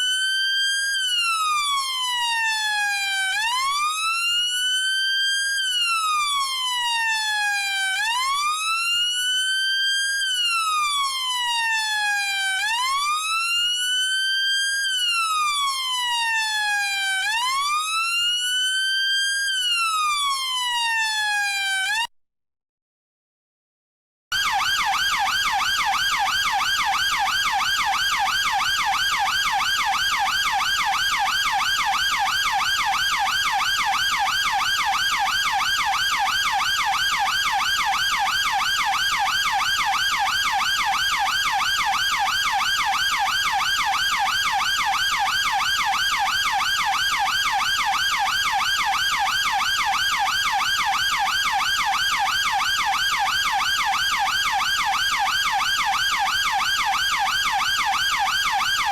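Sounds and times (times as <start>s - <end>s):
police siren yelping: 0.0s - 22.1s, 24.3s - 58.9s.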